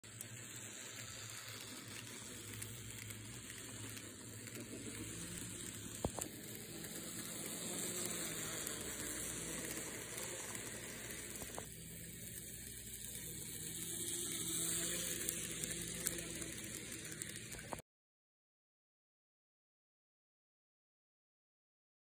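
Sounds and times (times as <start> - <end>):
model train motor whir: 0.0 - 17.8.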